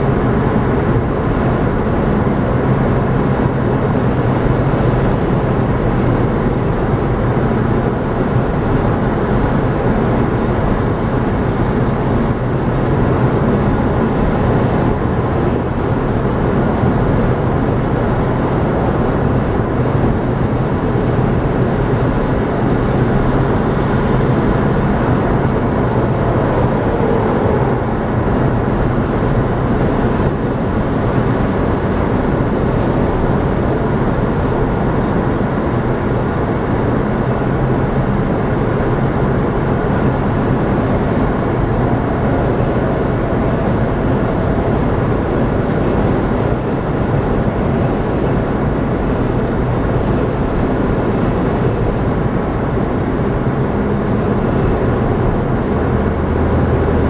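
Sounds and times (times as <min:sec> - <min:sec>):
car engine hum: 0:00.0 - 0:57.0.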